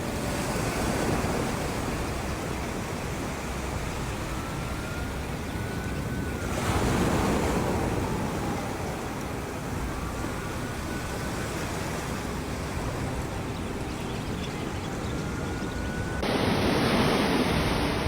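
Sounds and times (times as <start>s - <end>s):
waves rushing: 0.0s - 14.0s, 16.1s - 18.0s.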